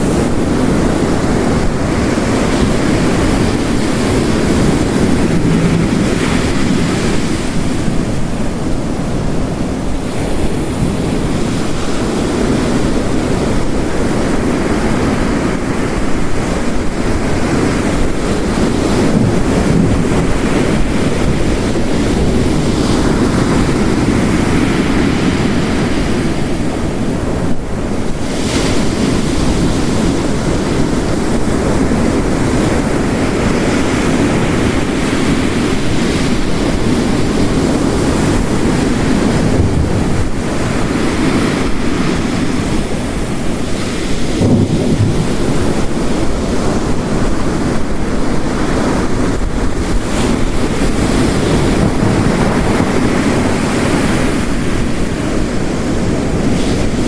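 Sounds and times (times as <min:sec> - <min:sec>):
heavy rain: 0:00.0 - 0:57.0
ocean waves crashing: 0:00.0 - 0:57.0.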